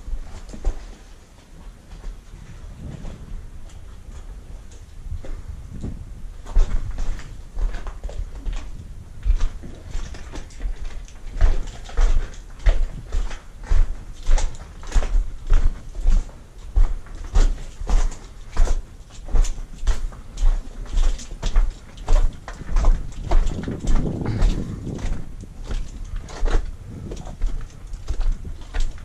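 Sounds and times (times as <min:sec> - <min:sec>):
footsteps on rock and stones: 0:00.0 - 0:29.0.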